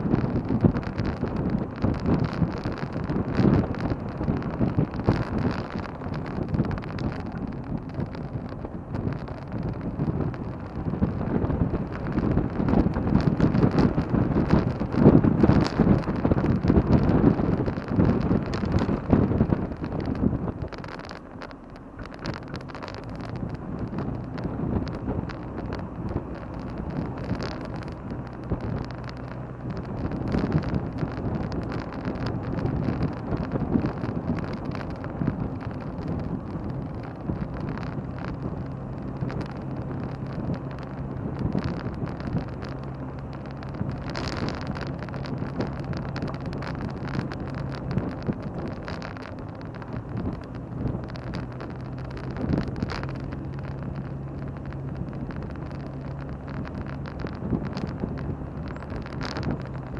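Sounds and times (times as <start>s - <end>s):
car engine running: 0.0s - 59.9s
road and wind noise: 0.0s - 59.9s.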